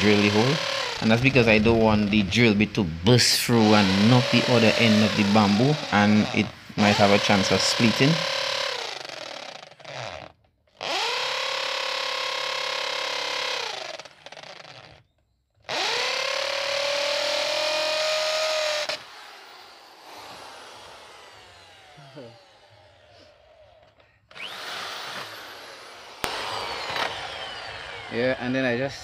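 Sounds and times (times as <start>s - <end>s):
electric drill boring through bamboo: 0.0s - 29.0s.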